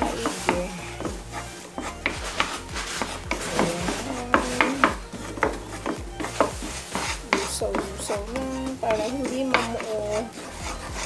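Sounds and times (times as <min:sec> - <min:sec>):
butter bubbling: 0:00.0 - 0:11.0
wooden spatula scraping a pan: 0:00.0 - 0:11.0.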